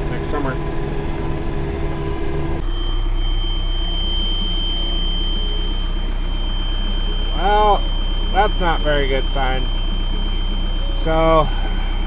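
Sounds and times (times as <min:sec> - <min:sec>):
high warning tone: 0:00.0 - 0:12.0
tractor diesel engine running: 0:00.0 - 0:12.0.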